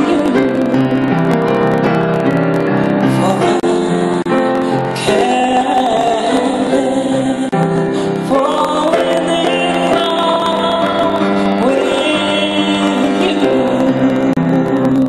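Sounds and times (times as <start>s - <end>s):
woman singing into microphone: 0.0s - 0.9s, 3.0s - 15.0s
grand piano accompaniment: 0.0s - 15.0s.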